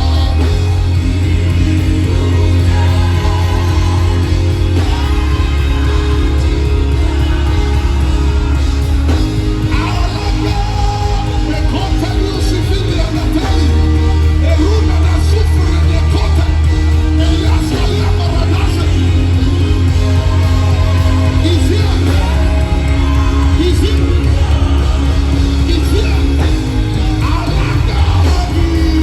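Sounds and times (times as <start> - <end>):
crowd shouting: 0.0 - 29.0
gospel band playing: 0.0 - 29.0
people singing: 0.0 - 29.0.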